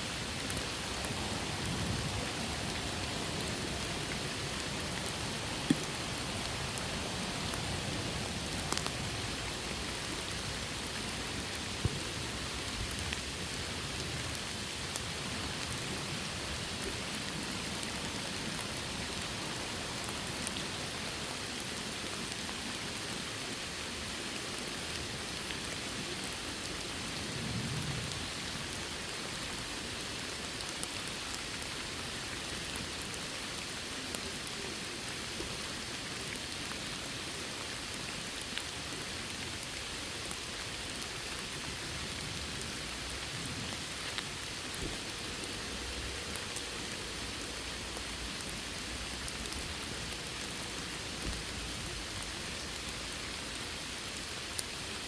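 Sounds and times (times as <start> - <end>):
steady rain falling: 0.0 - 55.0
sharp raindrops landing close: 0.1 - 55.0.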